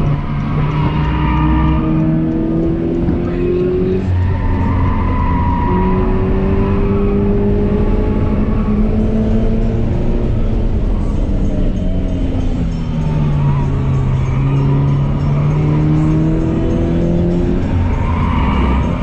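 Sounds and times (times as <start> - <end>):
car engine accelerating: 0.0 - 19.0
tyre and road noise: 0.0 - 19.0.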